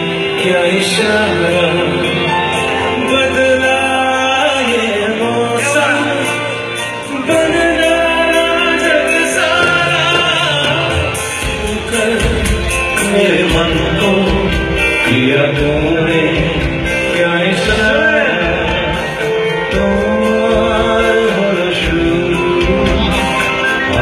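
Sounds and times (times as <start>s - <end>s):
drums: 0.0s - 24.0s
guitar: 0.0s - 24.0s
man singing through pa: 0.0s - 24.0s.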